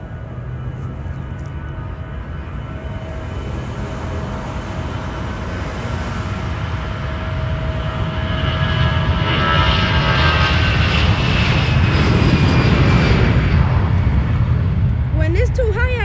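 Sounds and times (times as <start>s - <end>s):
jet airliner engines: 0.0s - 16.0s.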